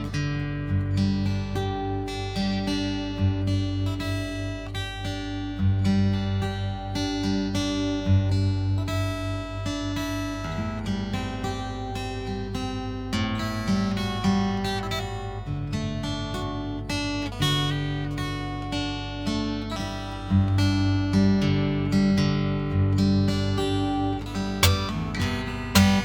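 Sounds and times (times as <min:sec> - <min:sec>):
fingerstyle acoustic guitar: 0:00.0 - 0:26.0.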